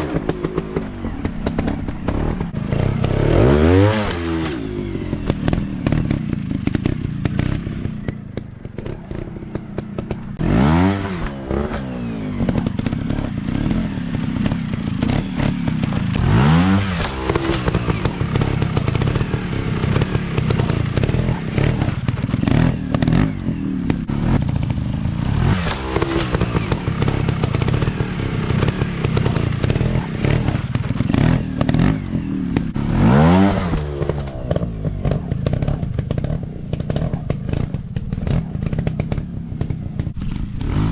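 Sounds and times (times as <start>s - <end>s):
dirt bike engines revving: 0.0s - 40.9s
knocks and clatter: 0.0s - 40.9s.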